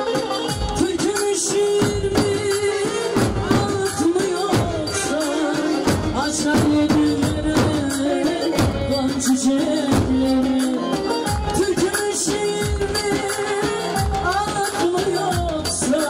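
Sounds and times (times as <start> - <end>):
bass drums beating: 0.0 - 16.0.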